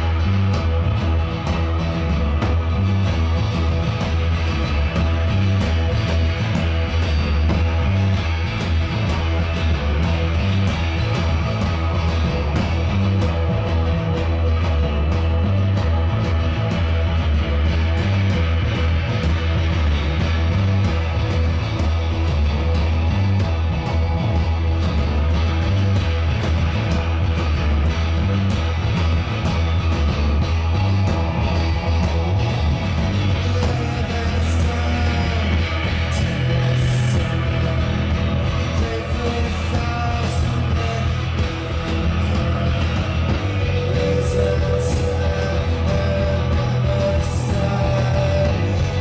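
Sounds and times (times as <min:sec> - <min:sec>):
bass guitar: 0:00.0 - 0:49.0
distorted electric guitars: 0:00.0 - 0:49.0
drums: 0:00.0 - 0:49.0.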